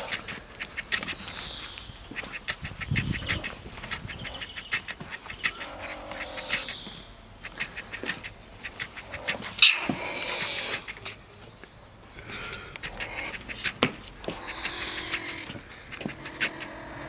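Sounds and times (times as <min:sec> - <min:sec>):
marten chattering: 0:00.0 - 0:11.6, 0:12.2 - 0:17.0.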